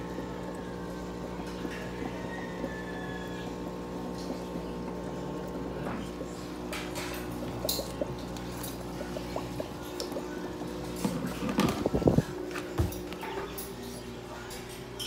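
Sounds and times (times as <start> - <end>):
fluorescent light electrical hum: 0.0 - 15.0.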